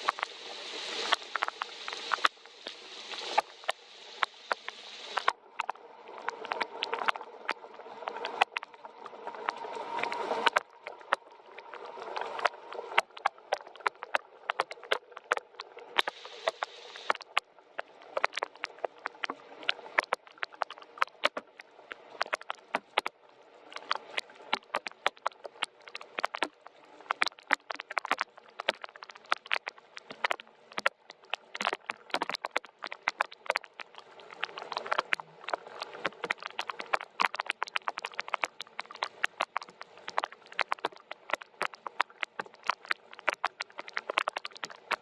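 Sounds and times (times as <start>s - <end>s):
soft hiss of rain: 0.0s - 45.0s
raindrops tapping on a surface: 1.0s - 45.0s.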